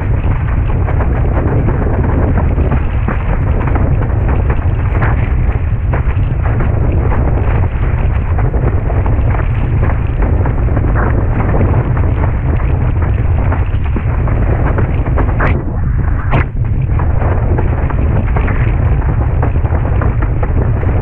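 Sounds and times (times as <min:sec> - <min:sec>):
water splashing and rushing: 0:00.0 - 0:21.0
wind buffeting microphone: 0:00.0 - 0:21.0.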